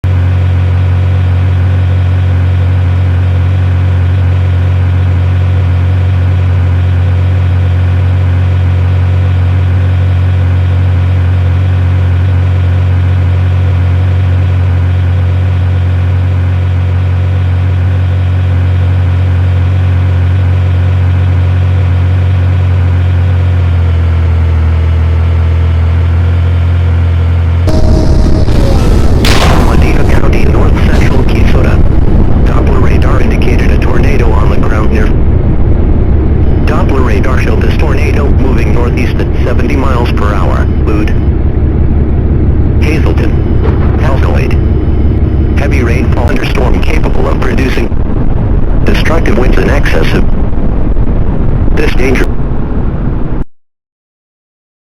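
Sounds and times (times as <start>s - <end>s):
loud low hum with overtones: 0.0s - 53.5s.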